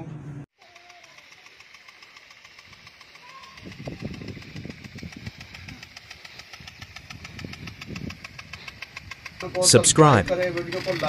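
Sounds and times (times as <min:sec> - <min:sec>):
sprinkler drive arm ticking: 0:00.6 - 0:11.0
sprinkler water jet hissing: 0:00.6 - 0:11.0.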